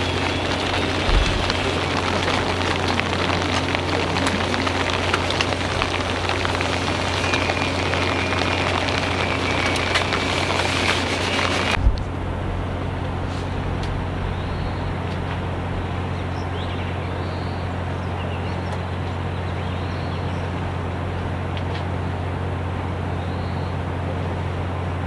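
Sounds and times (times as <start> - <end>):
ship engines droning: 0.0 - 25.0.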